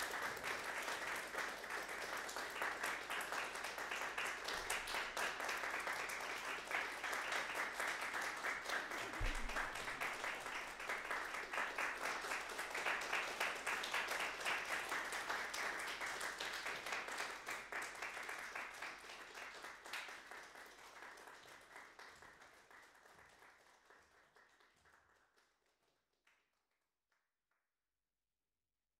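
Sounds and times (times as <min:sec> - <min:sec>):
audience applauding: 0:00.0 - 0:25.5.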